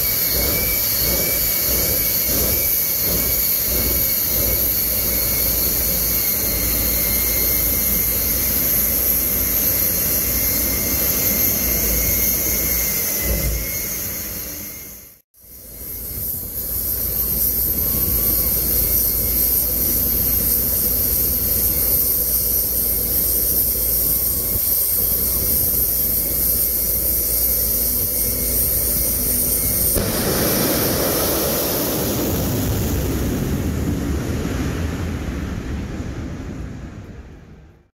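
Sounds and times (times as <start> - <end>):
jet engine whine and rumble: 0.0 - 37.9.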